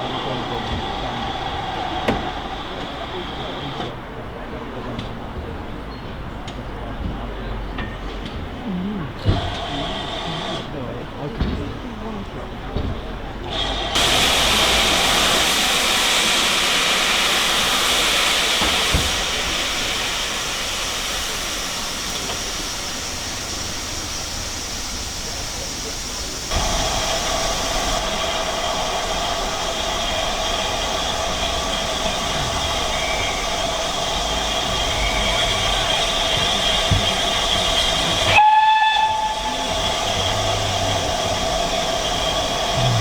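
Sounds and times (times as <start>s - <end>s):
steam locomotive hissing steam: 0.0s - 43.0s.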